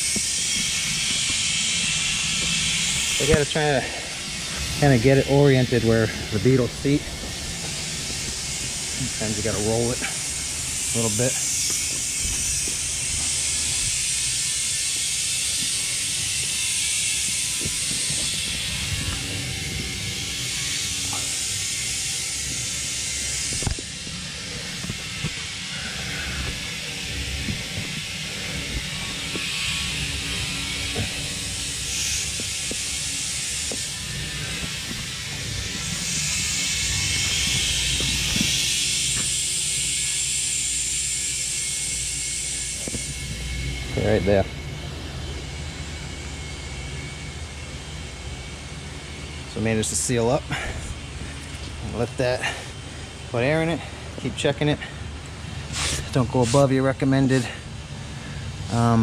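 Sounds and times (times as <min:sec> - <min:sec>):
compressed air hissing into tire: 0:00.0 - 0:44.2, 0:52.4 - 0:58.9.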